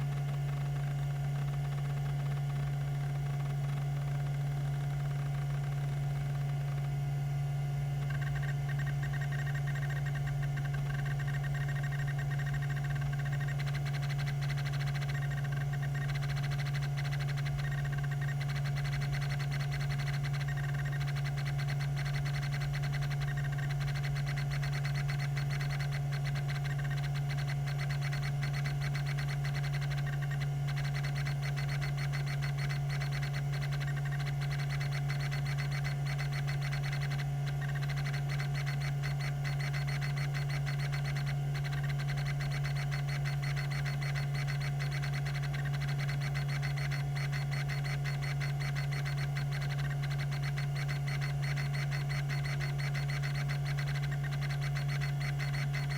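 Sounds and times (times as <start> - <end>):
hard drive head ticking: 0.0 - 55.9
hard drive spindle hum: 0.0 - 55.9.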